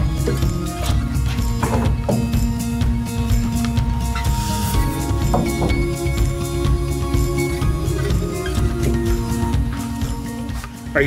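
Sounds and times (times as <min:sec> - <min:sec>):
low bass: 0:00.0 - 0:10.9
background music with held notes: 0:00.0 - 0:11.0.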